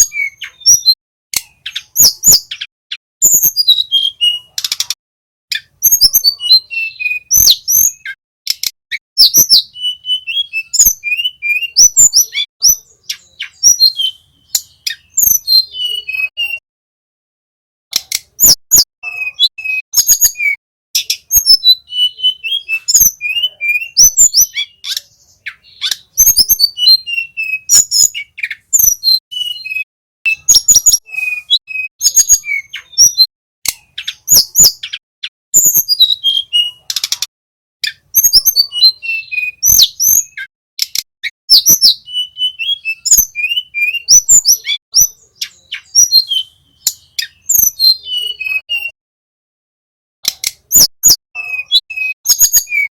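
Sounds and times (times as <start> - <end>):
bird singing chirps and trills: 0.0 - 16.6, 17.9 - 49.0, 50.2 - 52.9.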